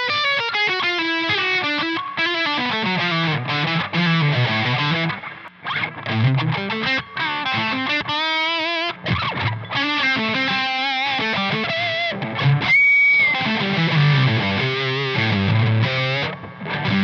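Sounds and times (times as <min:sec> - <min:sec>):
distorted electric guitar lead: 0:00.0 - 0:17.0.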